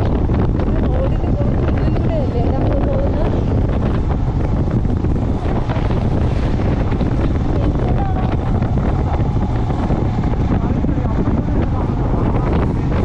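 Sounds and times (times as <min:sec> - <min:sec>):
motorcycle road noise: 0:00.0 - 0:13.0
wind buffeting microphone: 0:00.0 - 0:13.0.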